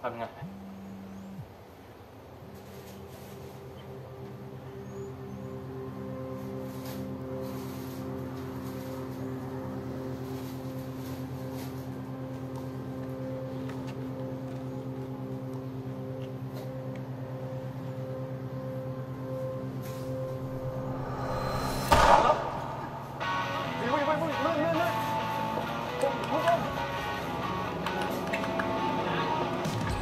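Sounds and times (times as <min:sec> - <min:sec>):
low droning soundtrack tones: 0:00.0 - 0:30.0.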